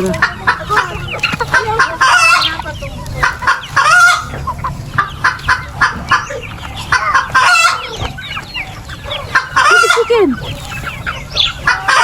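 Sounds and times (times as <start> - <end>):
chickens clucking: 0.0 - 12.0
loud long chicken calls: 0.0 - 12.0.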